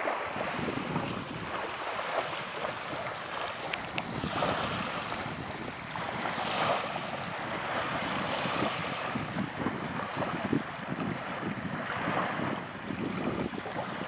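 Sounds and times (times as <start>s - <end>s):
small waves lapping on sand: 0.0s - 14.0s
wind on microphone: 0.0s - 14.0s.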